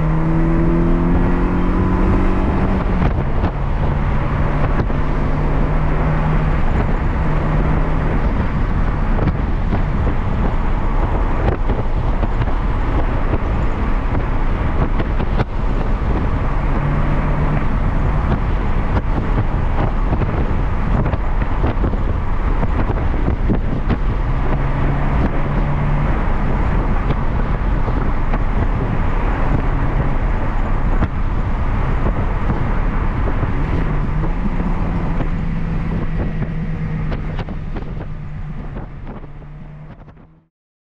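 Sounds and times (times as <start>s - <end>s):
car engine running: 0.0s - 40.5s
road and wind noise: 0.0s - 40.5s.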